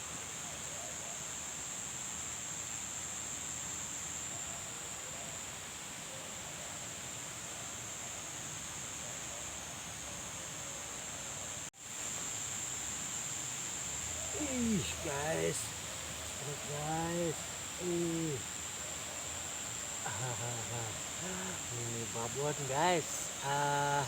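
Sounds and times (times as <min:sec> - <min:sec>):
even outdoor hiss: 0:00.0 - 0:24.0
high insect drone: 0:00.0 - 0:24.0.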